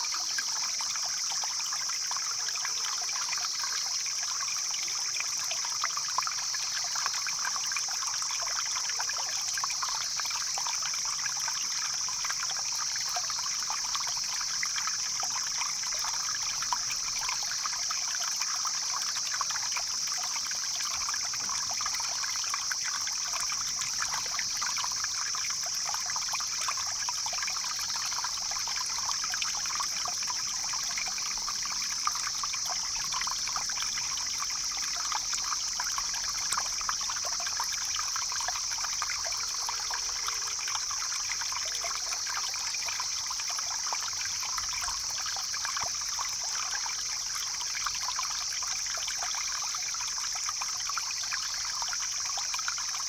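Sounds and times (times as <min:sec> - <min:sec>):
stream flowing and trickling: 0:00.0 - 0:53.0.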